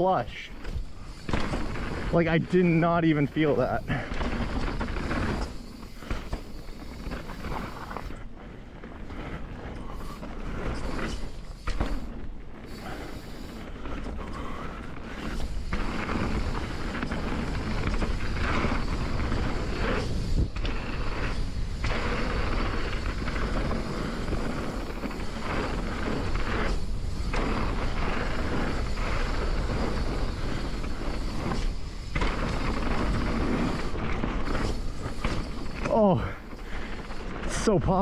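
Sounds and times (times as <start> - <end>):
bike tyres rolling on dirt: 0.0 - 38.0.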